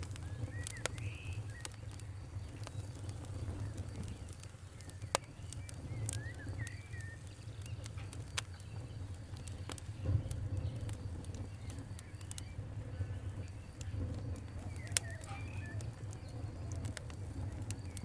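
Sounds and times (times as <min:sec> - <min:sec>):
wood fire crackling and popping: 0:00.0 - 0:18.0
bird chirping: 0:00.1 - 0:18.0.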